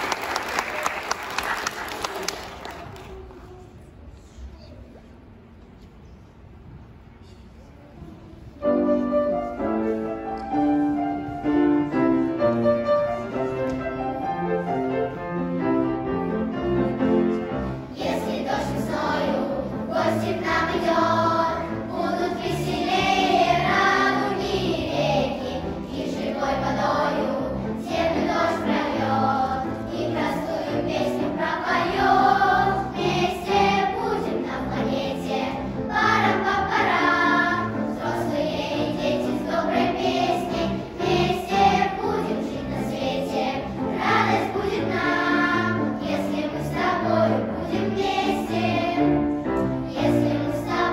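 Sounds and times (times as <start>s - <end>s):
children's choir singing: 8.5s - 50.9s
piano accompaniment: 8.6s - 50.9s.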